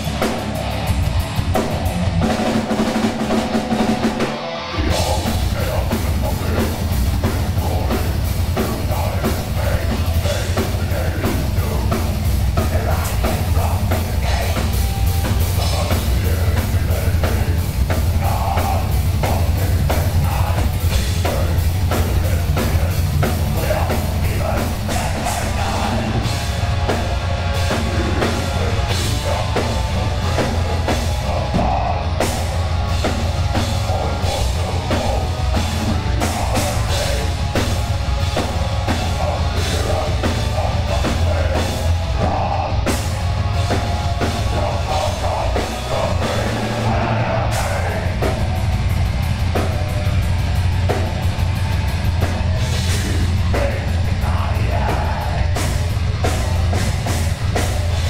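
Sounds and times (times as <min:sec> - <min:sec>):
heavy metal band playing: 0:00.0 - 0:58.0.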